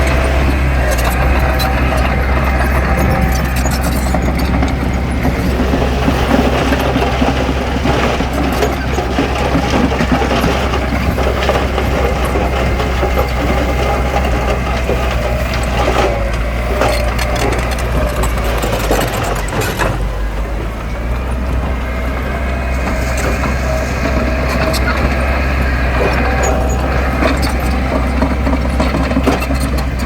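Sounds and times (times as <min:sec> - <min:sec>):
diesel engine drone: 0:00.0 - 0:30.0
rapid clattering: 0:00.0 - 0:30.0.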